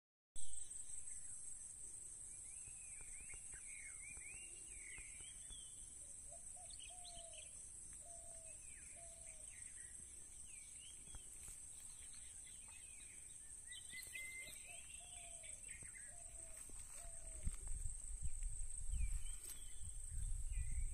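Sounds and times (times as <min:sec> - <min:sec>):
birds chirping: 0:00.6 - 0:20.9.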